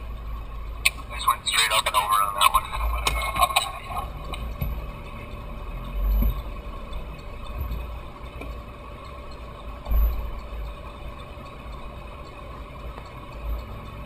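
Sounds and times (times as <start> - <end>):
truck engine rumble from inside cab: 0.0 - 14.0.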